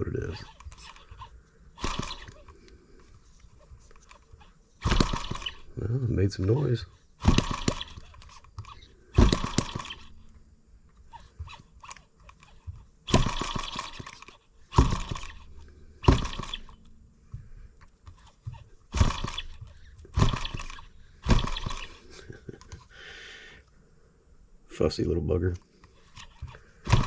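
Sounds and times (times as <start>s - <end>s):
model engine sputtering: 0.0s - 10.4s, 11.1s - 16.8s, 18.1s - 22.9s, 25.9s - 27.0s.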